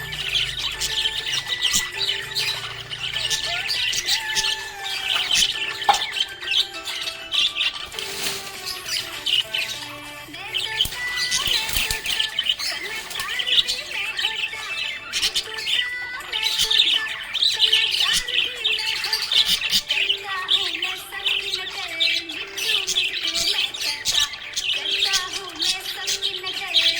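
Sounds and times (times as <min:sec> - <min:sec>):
budgerigars chirping and squawking: 0:00.0 - 0:26.9.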